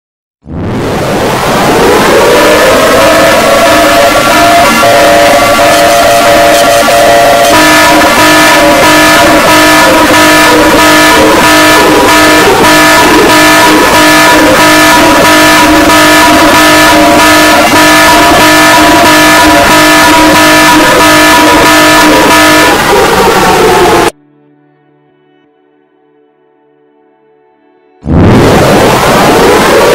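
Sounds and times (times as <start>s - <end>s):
distorted emergency alert alarm: 0.9s - 24.1s, 28.0s - 29.9s.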